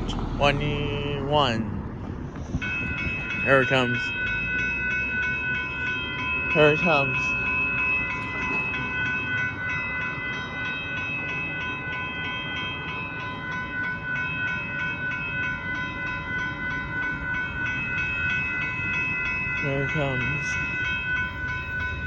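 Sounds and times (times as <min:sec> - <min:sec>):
railroad crossing bell ringing: 0:00.0 - 0:22.0
train rumble: 0:00.0 - 0:22.0.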